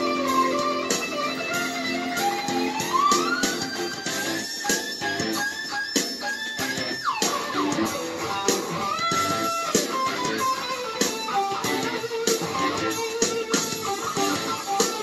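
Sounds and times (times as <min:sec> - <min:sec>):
electric guitar lead: 0:00.0 - 0:15.0.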